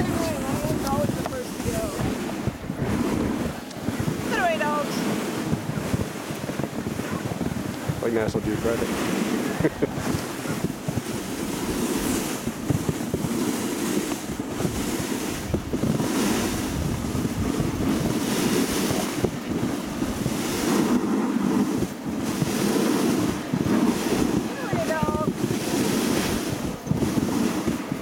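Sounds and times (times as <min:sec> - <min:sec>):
dog sled running over snow: 0:00.0 - 0:28.0
wind buffeting microphone: 0:00.0 - 0:28.0.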